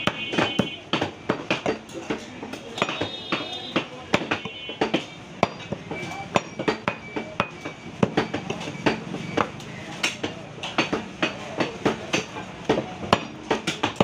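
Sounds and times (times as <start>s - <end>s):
cleavers chopping on wooden blocks: 0.0s - 14.0s.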